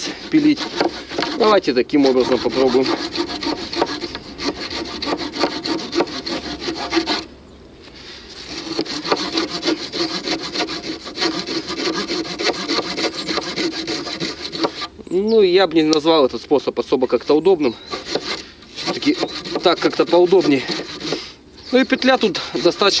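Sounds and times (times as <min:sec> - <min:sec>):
saw blade rasping through wood: 0:00.0 - 0:07.3, 0:08.3 - 0:15.0, 0:17.8 - 0:23.0.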